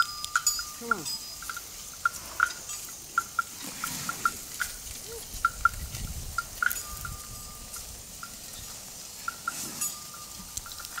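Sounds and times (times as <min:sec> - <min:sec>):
small bell clinking: 0:00.0 - 0:11.0.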